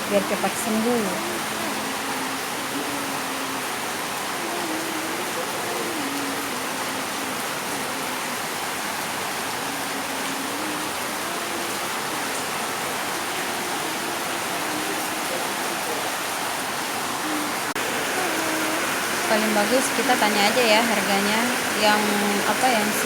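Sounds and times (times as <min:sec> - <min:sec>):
faint voices: 0:00.0 - 0:23.0
rain falling: 0:00.0 - 0:23.0.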